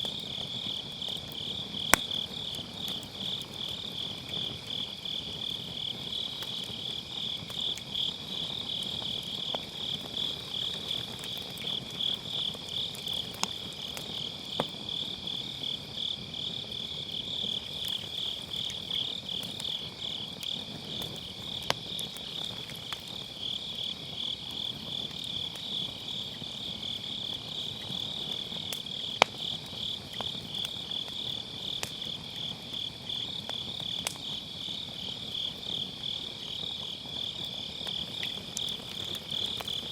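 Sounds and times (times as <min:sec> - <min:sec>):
insects chirping: 0:00.0 - 0:39.9
wood fire crackling and popping: 0:00.0 - 0:39.9.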